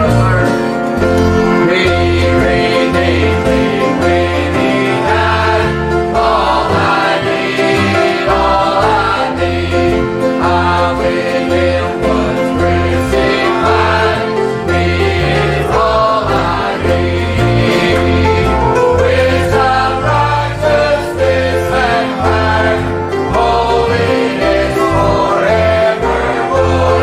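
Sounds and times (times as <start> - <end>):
gospel group singing: 0.0 - 27.0
instrumental accompaniment: 0.0 - 27.0.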